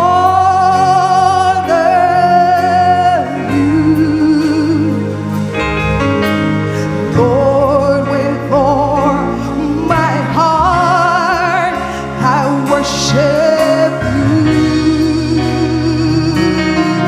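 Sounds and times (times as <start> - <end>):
bass: 0.0 - 17.0
keyboard chords: 0.0 - 17.0.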